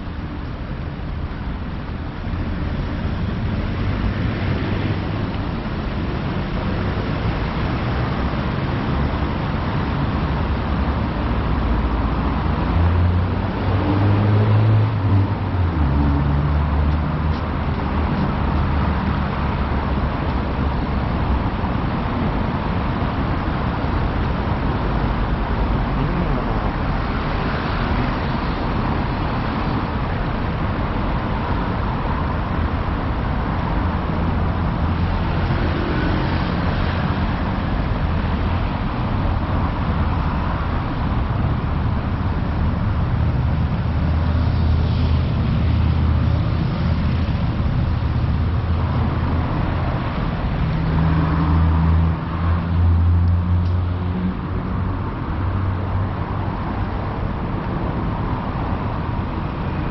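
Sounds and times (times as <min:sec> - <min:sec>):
city street traffic: 0:00.0 - 0:59.9
vehicle engine droning: 0:00.0 - 0:59.9.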